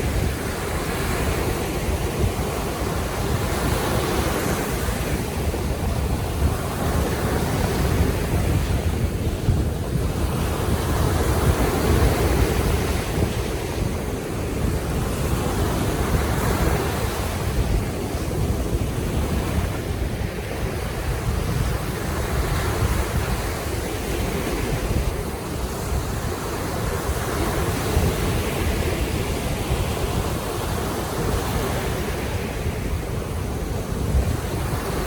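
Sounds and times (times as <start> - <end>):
waves washing in: 0.0 - 35.0
wind rumble on microphone: 0.0 - 35.0.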